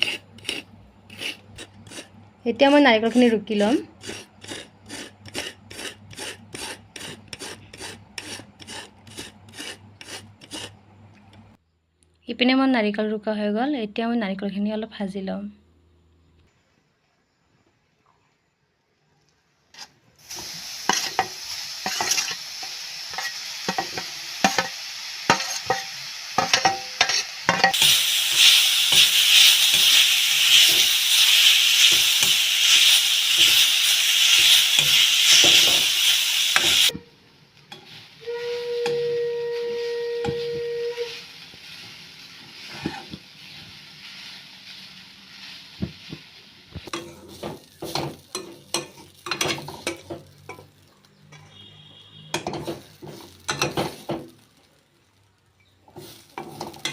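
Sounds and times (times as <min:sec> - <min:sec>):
coconut sizzling in a pan: 0:00.0 - 0:10.8, 0:19.7 - 0:56.9
spatula scraping a pan: 0:00.0 - 0:11.5, 0:19.7 - 0:37.1, 0:37.7 - 0:54.4, 0:55.9 - 0:56.9.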